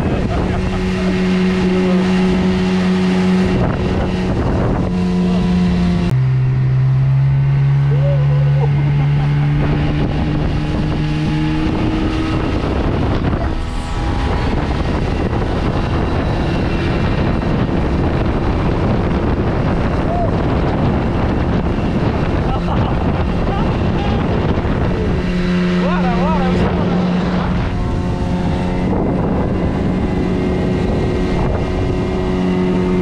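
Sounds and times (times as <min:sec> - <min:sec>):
outboard motor running: 0:00.0 - 0:33.0
wind on microphone: 0:00.0 - 0:33.0.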